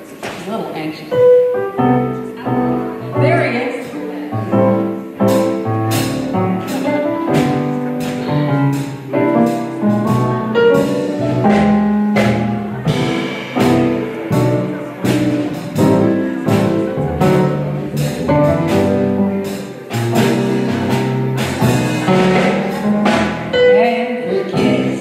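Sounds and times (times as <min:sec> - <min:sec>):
jazz band playing: 0:00.9 - 0:25.0.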